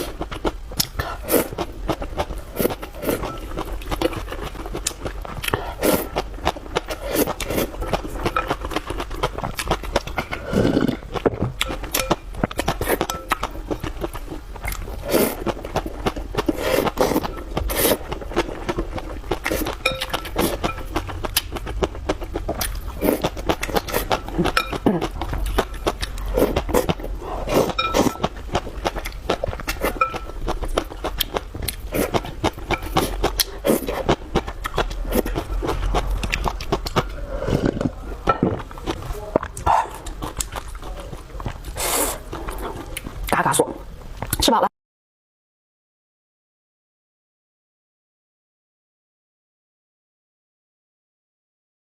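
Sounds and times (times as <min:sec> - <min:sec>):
chewing and slurping: 0:00.0 - 0:43.4.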